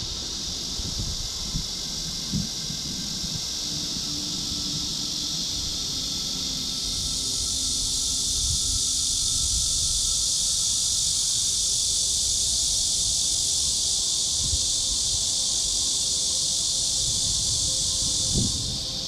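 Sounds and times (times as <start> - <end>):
insects chorus shrilling: 0.0 - 19.0.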